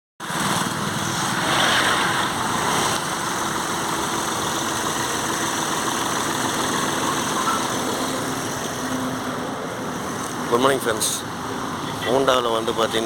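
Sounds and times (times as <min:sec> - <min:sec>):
vehicle engine idling: 0:02.1 - 0:13.0.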